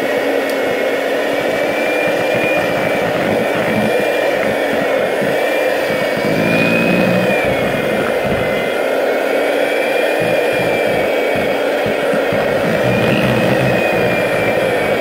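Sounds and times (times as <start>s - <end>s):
electric mixer whining: 0.0s - 15.0s.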